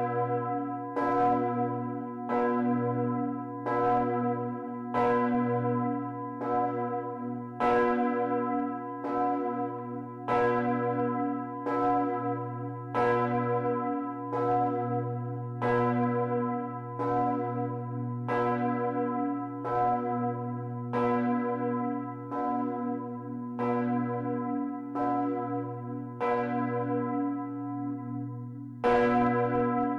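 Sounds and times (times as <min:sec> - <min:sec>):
large bell ringing: 0:00.0 - 0:29.9.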